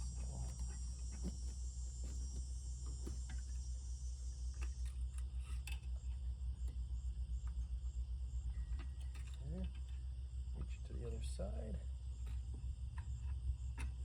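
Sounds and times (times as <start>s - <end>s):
crickets chirring: 0.0s - 14.0s
low steady hum: 0.0s - 14.0s.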